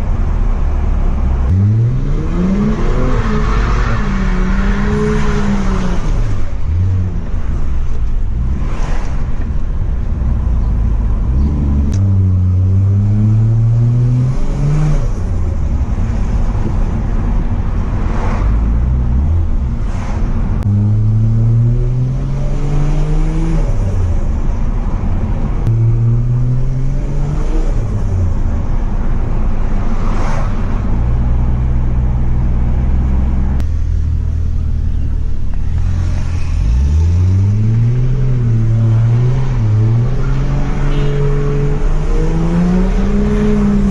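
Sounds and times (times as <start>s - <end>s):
car engine revving: 1.4s - 43.9s.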